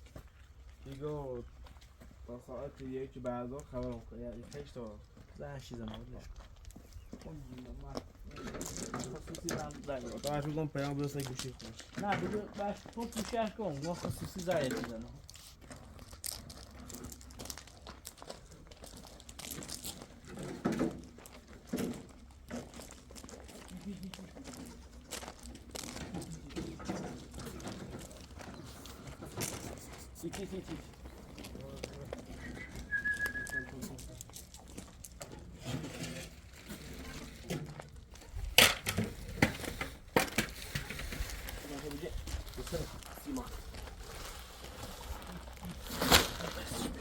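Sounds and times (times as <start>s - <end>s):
rustling and crinkling: 0.0s - 47.0s.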